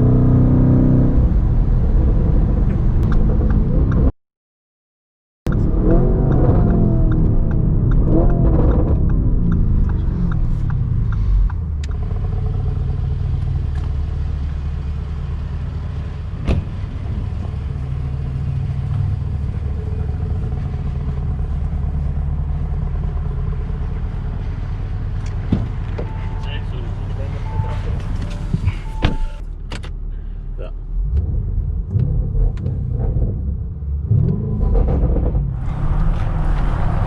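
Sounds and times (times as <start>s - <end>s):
car engine drone: 0.0s - 4.1s, 5.5s - 37.0s.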